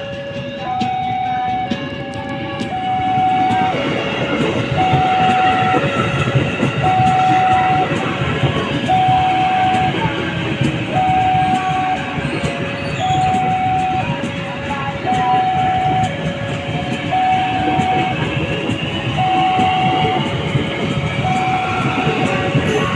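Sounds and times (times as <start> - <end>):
level crossing two-tone alarm: 0.0 - 22.9
train wheel rumble: 0.0 - 22.9.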